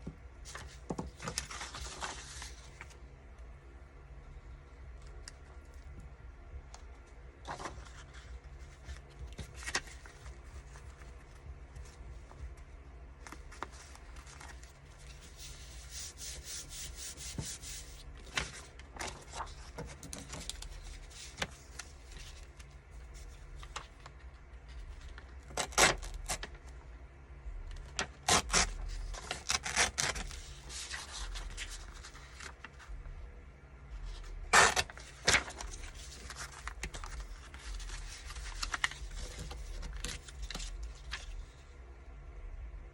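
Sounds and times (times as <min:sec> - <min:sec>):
steady low hum: 0:00.0 - 0:42.9
paper rubbing and rustling: 0:00.4 - 0:03.0, 0:07.4 - 0:26.7, 0:27.8 - 0:33.0, 0:34.0 - 0:41.7.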